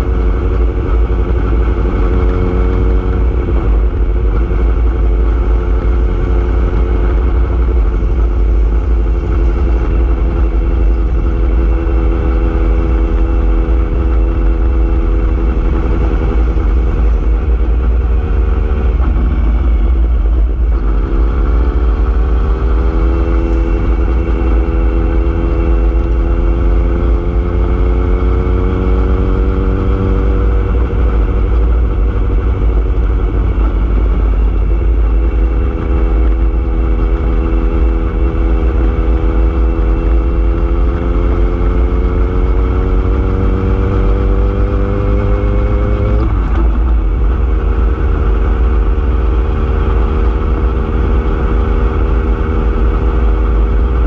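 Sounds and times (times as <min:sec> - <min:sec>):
vehicle engine accelerating: 0:00.0 - 0:54.0
wind and road noise: 0:00.0 - 0:54.0.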